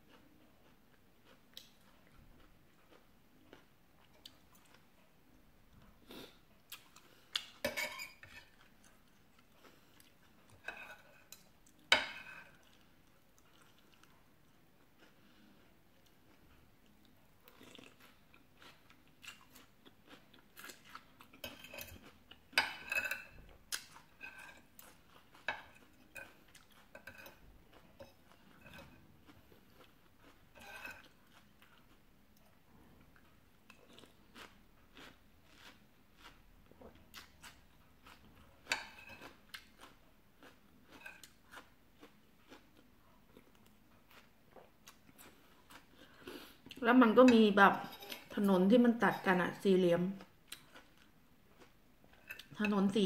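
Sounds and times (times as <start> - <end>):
chewing and crunching food: 0.0 - 53.0.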